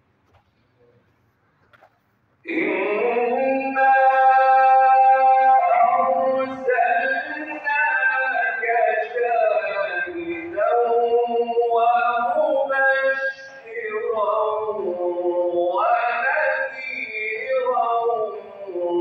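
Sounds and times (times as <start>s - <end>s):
man chanting melodically: 2.5s - 19.0s.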